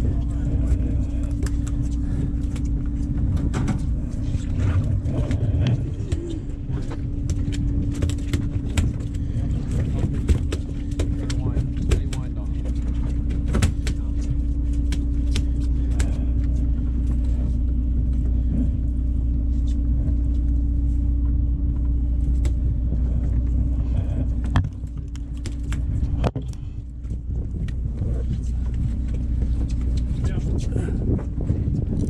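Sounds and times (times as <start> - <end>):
boat machinery droning: 0.0 - 32.0.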